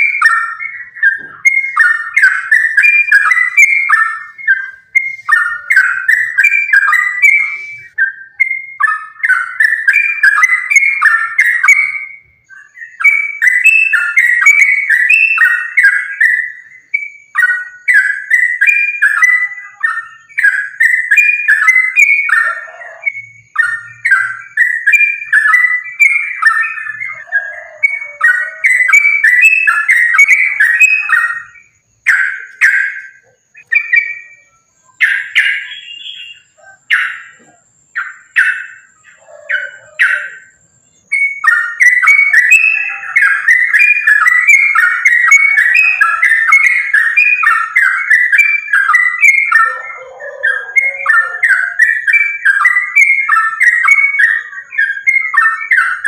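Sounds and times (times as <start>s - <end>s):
bird singing chattering phrases: 0.0s - 56.0s.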